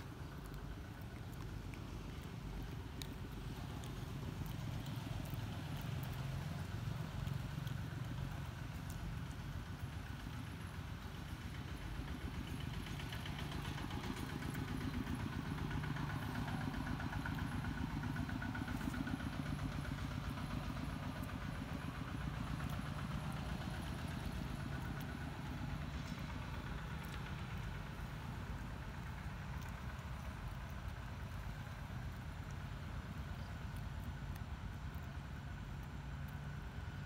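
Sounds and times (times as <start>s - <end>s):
motor engine running: 0.1s - 35.1s.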